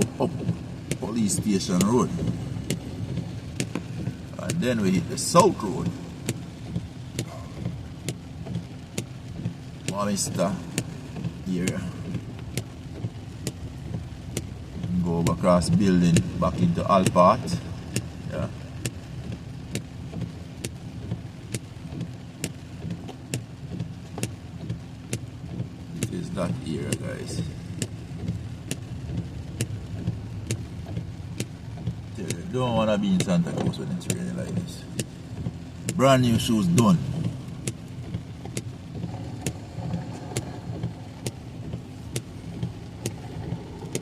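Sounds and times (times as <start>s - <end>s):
engine and road rumble: 0.0s - 44.0s
heavy rain on car: 0.0s - 44.0s.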